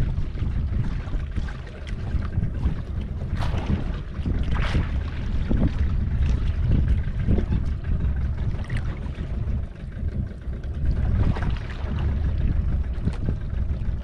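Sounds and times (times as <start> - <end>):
sea noise: 0.0 - 14.0
wind rumble: 0.0 - 14.0.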